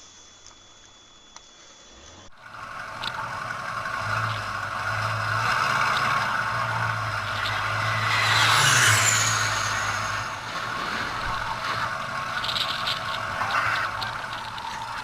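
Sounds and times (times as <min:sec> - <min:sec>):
high falling whine: 0:00.0 - 0:15.0
steady low hum: 0:00.0 - 0:15.0
aircraft engine roar: 0:02.3 - 0:15.0.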